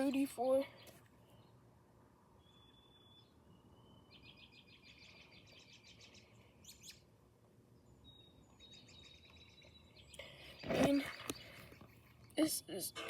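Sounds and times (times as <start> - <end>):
faint bird chirps and trills: 0.0 - 13.0.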